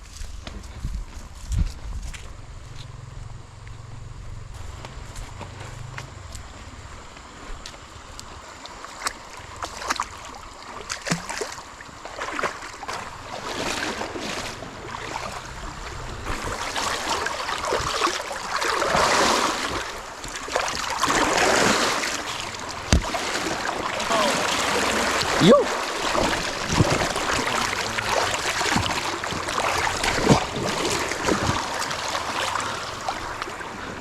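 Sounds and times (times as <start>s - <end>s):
water rushing and splashing: 4.6s - 34.0s.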